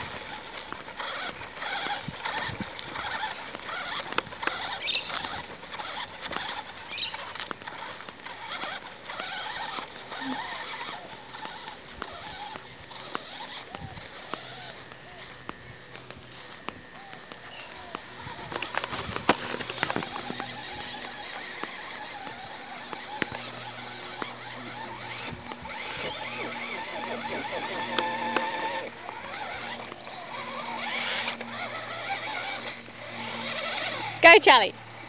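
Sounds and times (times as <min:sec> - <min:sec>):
scattered clicks: 0:00.0 - 0:35.0
toy truck motor whining: 0:00.0 - 0:35.0.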